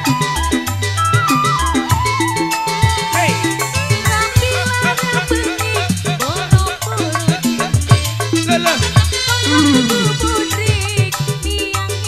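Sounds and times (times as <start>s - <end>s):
live band playing: 0.0s - 11.4s.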